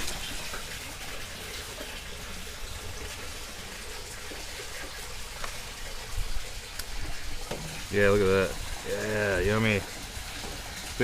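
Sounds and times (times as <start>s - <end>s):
water running and trickling: 0.0s - 11.0s.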